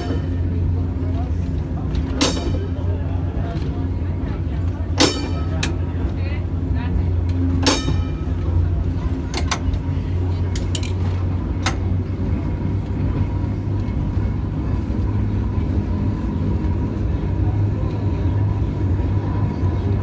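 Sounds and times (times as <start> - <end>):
tram rumbling on rails: 0.0 - 20.0.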